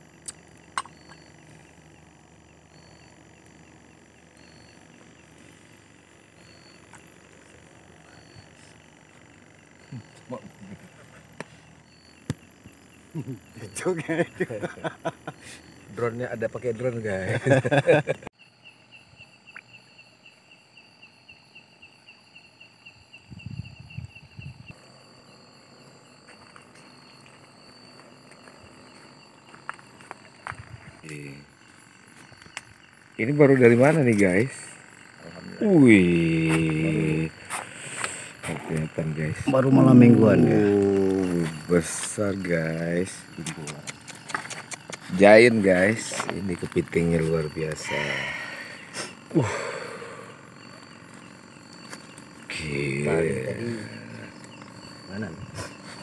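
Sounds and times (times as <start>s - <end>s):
insect chirp: 0.0s - 56.0s
night insect chorus trilling: 0.0s - 56.0s.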